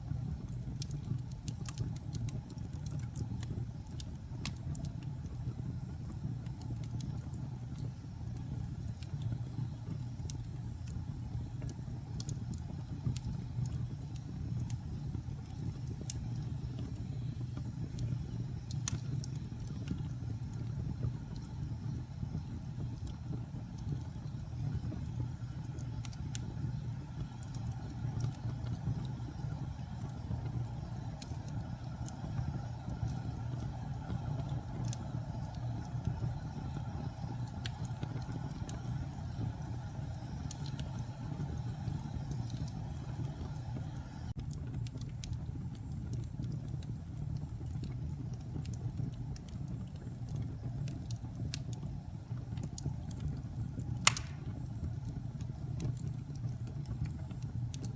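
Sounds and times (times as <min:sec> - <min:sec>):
fire crackling and popping: 0:00.0 - 0:57.9
flames rumbling: 0:00.0 - 0:57.9.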